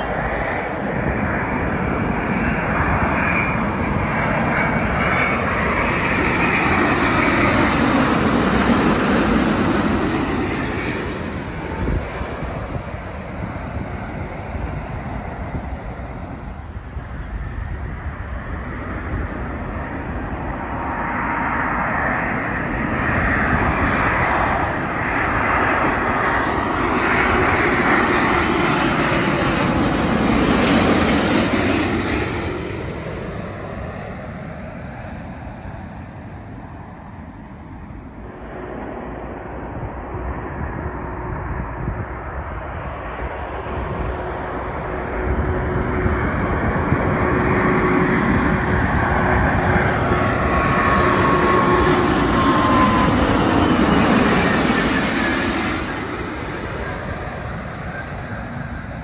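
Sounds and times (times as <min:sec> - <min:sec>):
approaching airliner roar: 0:00.0 - 0:59.0
jet engine roar overhead: 0:00.0 - 0:59.0.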